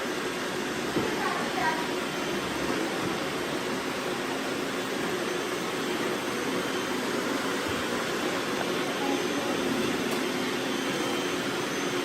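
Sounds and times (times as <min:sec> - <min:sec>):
robot vacuums whirring: 0:00.5 - 0:12.0.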